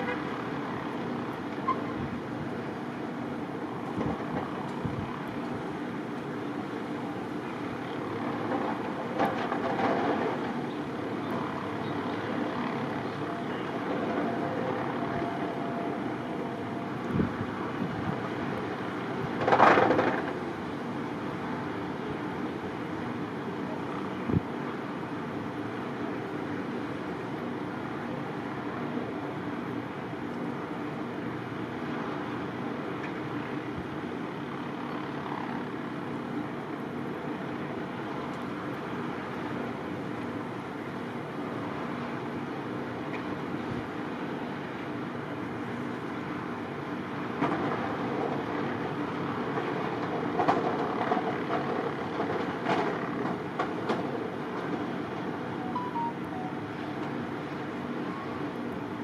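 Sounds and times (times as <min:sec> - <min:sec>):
vehicle driving on snowy road: 0:00.0 - 0:55.6.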